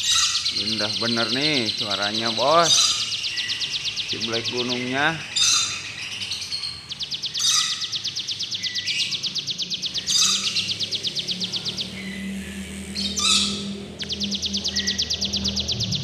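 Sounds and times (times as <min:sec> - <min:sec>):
bird buzzy trills: 0:00.0 - 0:16.0
bird sharp chirps: 0:00.0 - 0:16.0.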